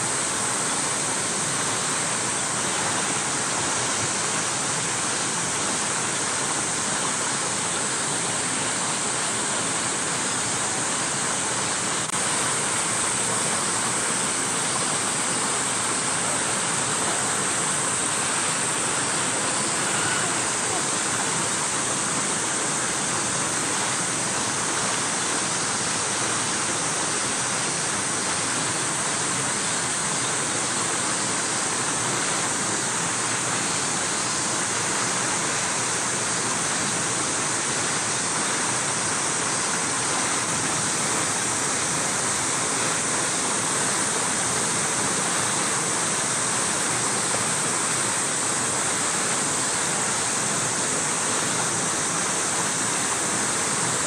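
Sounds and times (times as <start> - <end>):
steady rushing hiss: 0.0 - 54.0.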